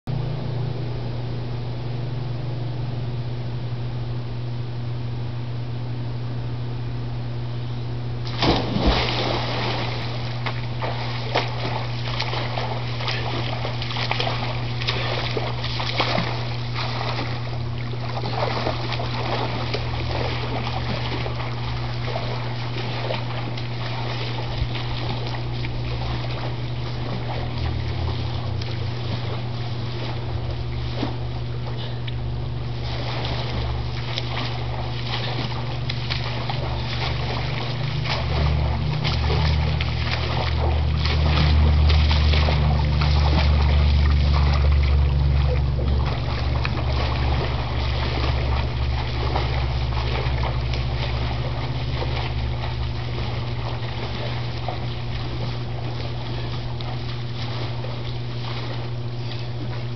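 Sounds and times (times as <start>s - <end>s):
steady low hum: 0.0s - 59.9s
splashing and sloshing water: 8.2s - 59.9s.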